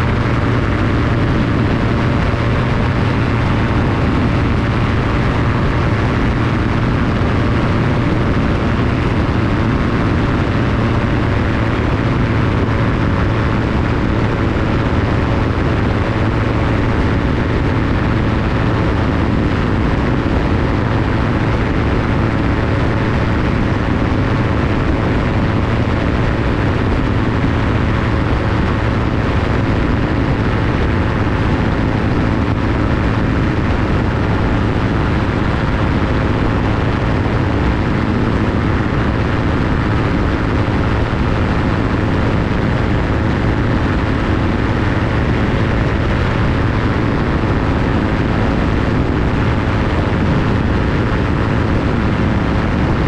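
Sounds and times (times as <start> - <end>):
light aircraft engine and propeller: 0.0 - 53.0
wind rushing over microphone: 0.0 - 53.0.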